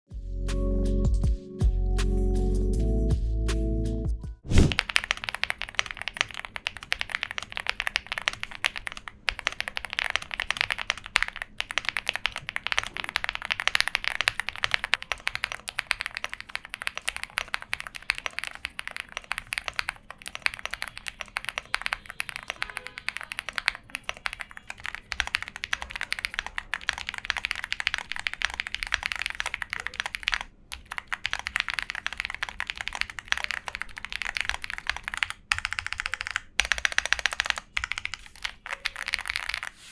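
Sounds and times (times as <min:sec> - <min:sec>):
fast mechanical keyboard typing: 0:04.6 - 0:39.9.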